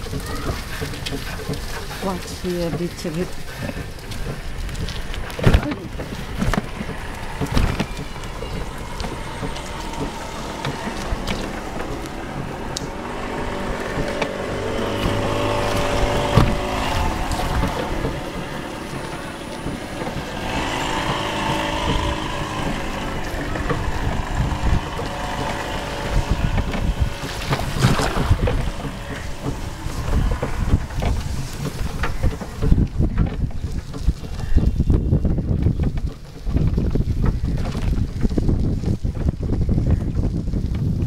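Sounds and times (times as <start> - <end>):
wheels rumbling on dirt road: 0.0 - 41.0.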